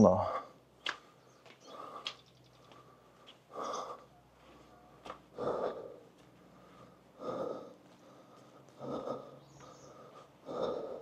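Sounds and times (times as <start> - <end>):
person breathing heavily: 0.2 - 11.0.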